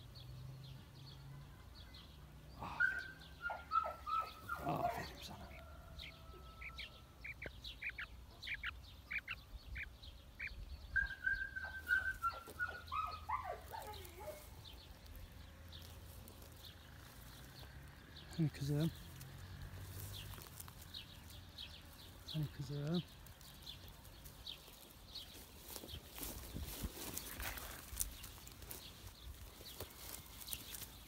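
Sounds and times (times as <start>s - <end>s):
bird chirps: 0.0s - 31.0s.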